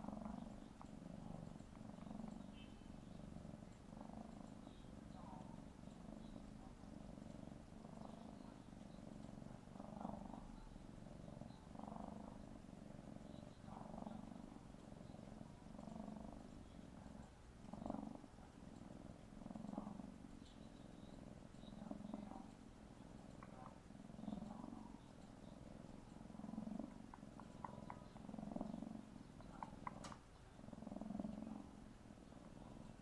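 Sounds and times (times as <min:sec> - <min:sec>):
kitten purring: 0:00.0 - 0:33.0.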